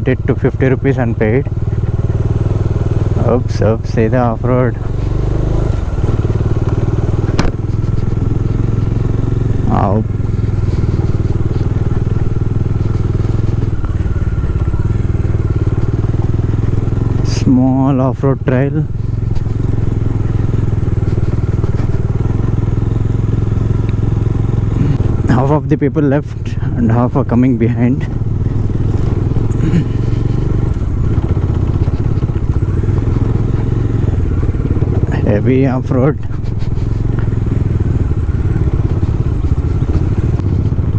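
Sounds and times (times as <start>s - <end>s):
motorcycle engine at low revs: 0.0s - 40.9s.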